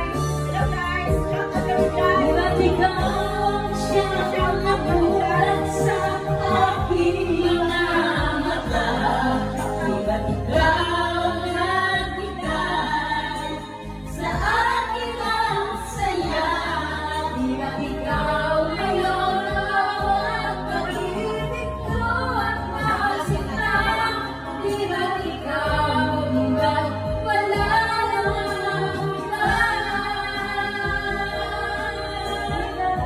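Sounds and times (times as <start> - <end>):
music backing track: 0.0 - 33.0
women singing karaoke: 0.0 - 33.0.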